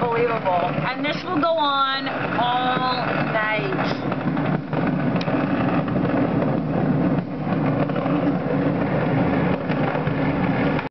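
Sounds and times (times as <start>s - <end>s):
firecrackers crackling and banging: 0.0s - 10.9s.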